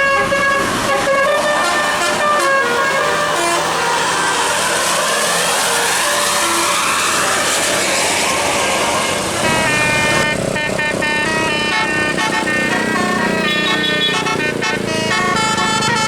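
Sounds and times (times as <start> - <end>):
musical air horn tune: 0.0 - 7.2, 9.0 - 16.0
bus passing: 0.0 - 16.0.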